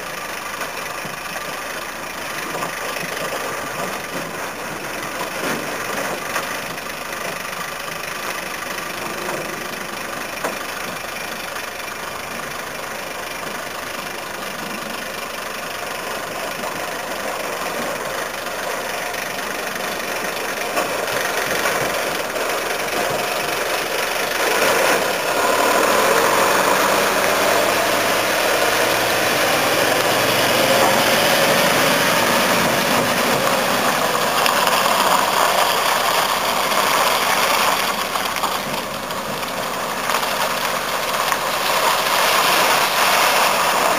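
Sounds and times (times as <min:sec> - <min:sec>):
diesel truck engine: 0:00.0 - 0:43.9.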